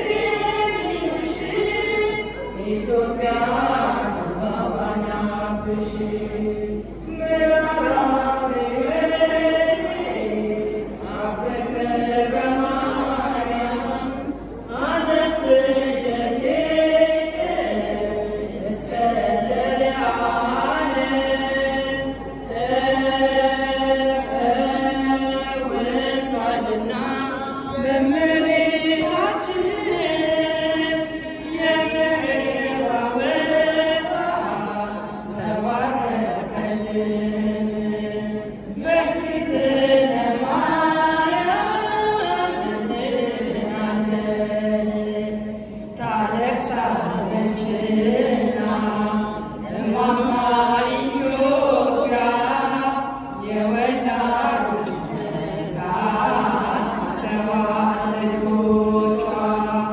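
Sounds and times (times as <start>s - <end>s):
women's choir singing a hymn: 0.0s - 59.9s.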